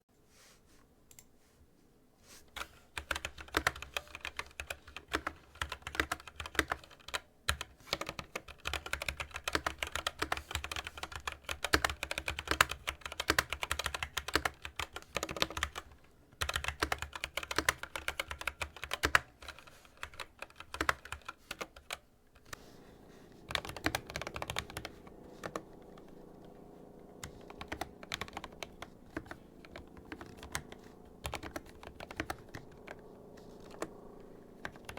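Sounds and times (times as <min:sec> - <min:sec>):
faint steady hum: 0:00.1 - 0:34.9
mechanical keyboard typing: 0:02.6 - 0:22.6, 0:23.4 - 0:34.9.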